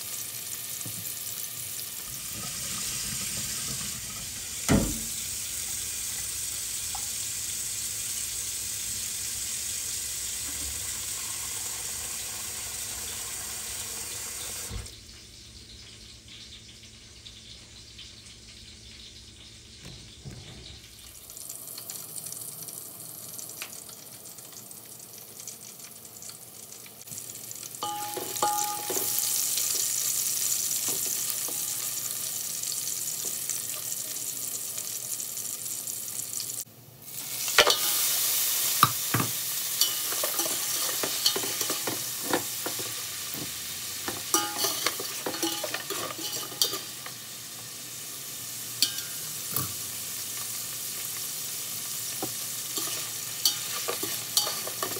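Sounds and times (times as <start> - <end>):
meat frying in oil: 0.0 - 54.9.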